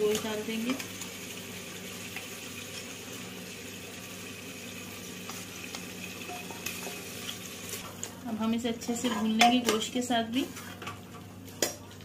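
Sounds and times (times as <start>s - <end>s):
masala sizzling and bubbling: 0.0s - 12.0s.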